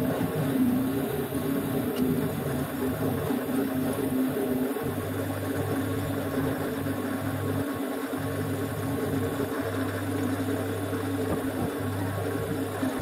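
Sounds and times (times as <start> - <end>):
mini lathe running: 0.0 - 13.0.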